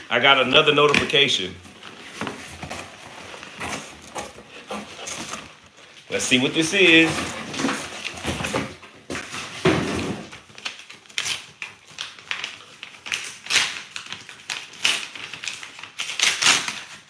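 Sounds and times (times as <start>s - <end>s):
paper and plastic rustling: 0.0s - 17.0s.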